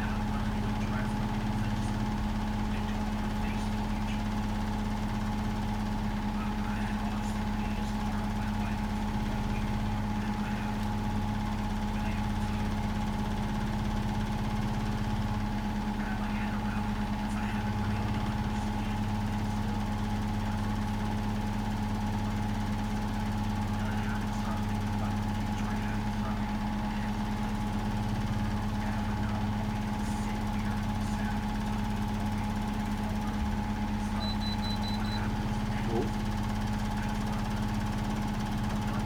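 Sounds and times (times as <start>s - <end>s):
washing machine running: 0.0s - 39.0s.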